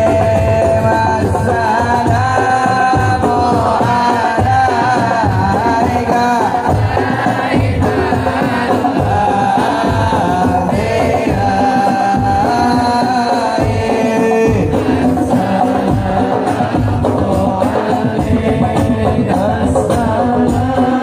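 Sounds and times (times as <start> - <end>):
frame drums beating: 0.0 - 21.0
person singing devotional song: 0.0 - 21.0.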